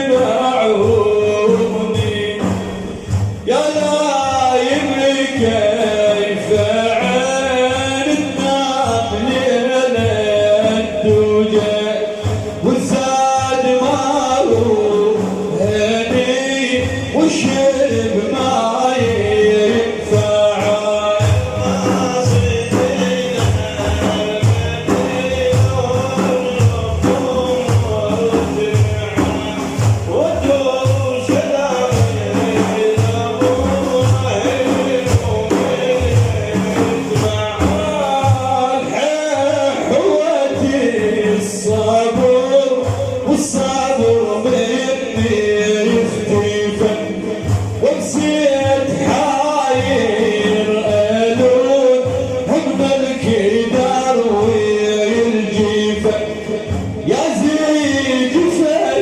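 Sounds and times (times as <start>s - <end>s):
frame drums beating: 0.0s - 59.0s
man singing: 0.0s - 59.0s.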